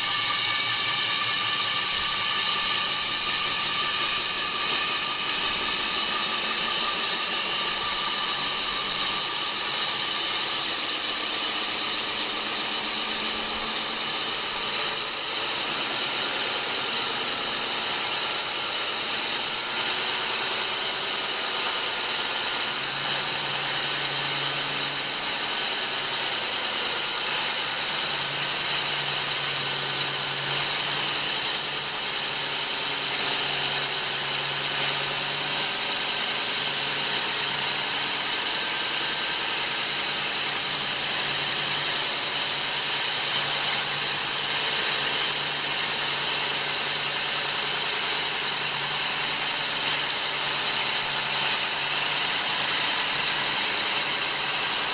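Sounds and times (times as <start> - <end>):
core drill motor whining: 0.0 - 54.9.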